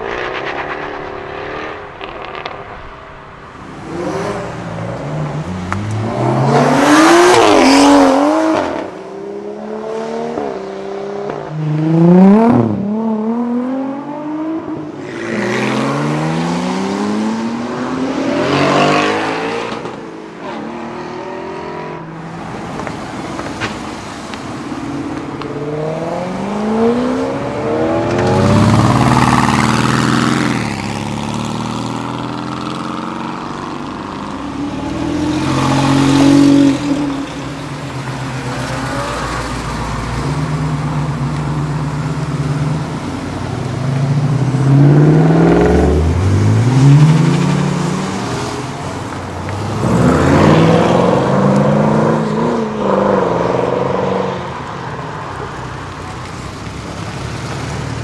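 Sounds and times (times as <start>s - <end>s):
sports cars accelerating: 3.6s - 58.0s.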